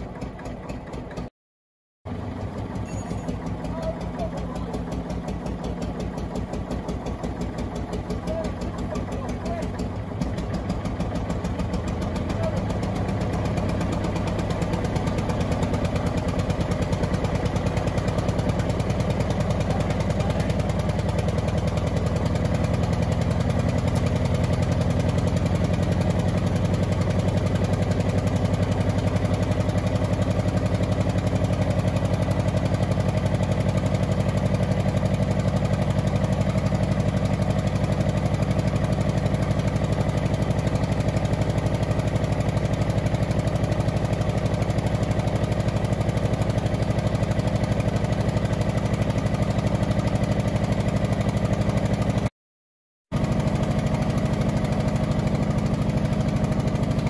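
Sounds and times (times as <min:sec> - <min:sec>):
diesel engine running: 0:00.0 - 0:01.3, 0:02.1 - 0:52.3, 0:53.1 - 0:57.0.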